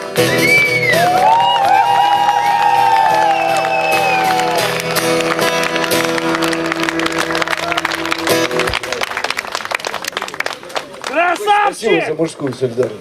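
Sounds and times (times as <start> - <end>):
voices cheering: 0.4 - 5.7, 6.4 - 12.2
audience applauding: 0.4 - 12.7.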